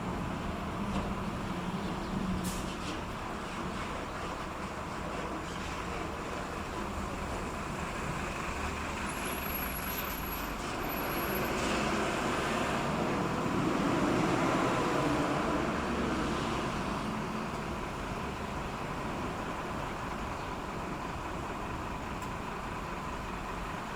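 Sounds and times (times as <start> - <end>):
engine rumble: 0.0 - 23.9.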